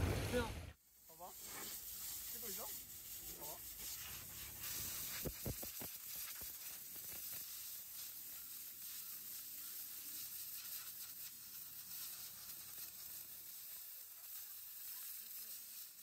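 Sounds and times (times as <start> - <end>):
compressed-air gun hissing: 1.2 - 16.0.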